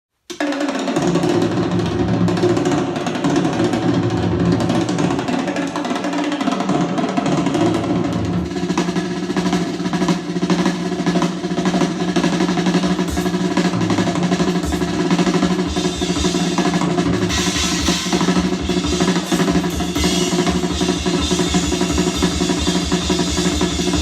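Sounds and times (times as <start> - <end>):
music with drums and bass: 0.3 - 24.0.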